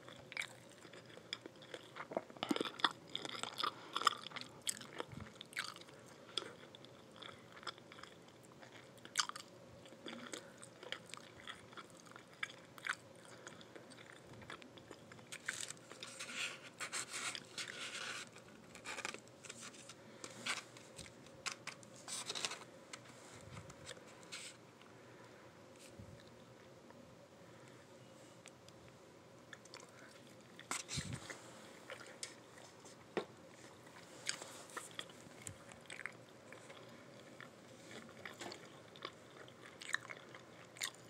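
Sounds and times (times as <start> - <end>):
person chewing crunchy food: 0.0 - 24.9, 29.5 - 32.9, 33.5 - 41.0.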